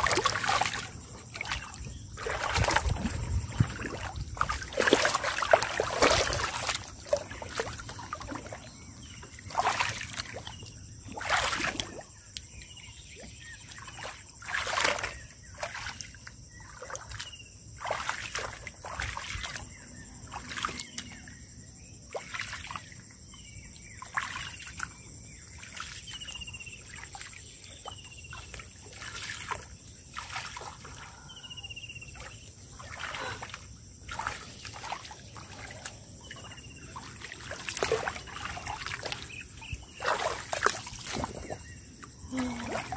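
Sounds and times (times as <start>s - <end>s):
hands splashing in muddy water: 0.0s - 21.2s, 22.1s - 23.0s, 24.0s - 25.0s, 25.6s - 31.2s, 32.1s - 42.9s.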